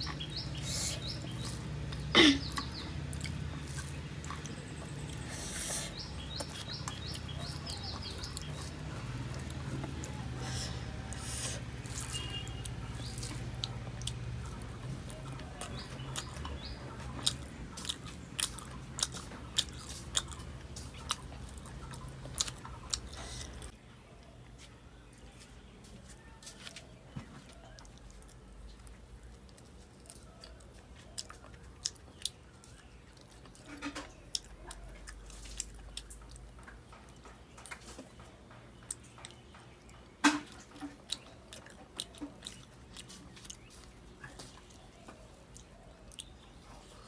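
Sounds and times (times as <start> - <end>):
birds chirping faintly: 0.0 - 47.0
close chewing and mouth sounds: 0.0 - 47.0.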